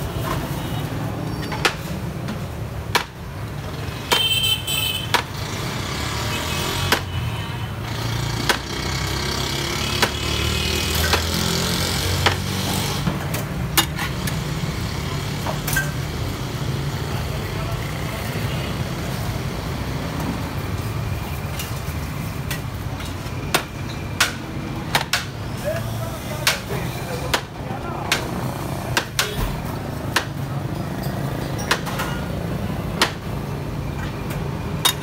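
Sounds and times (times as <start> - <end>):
street traffic rumble: 0.0 - 35.0.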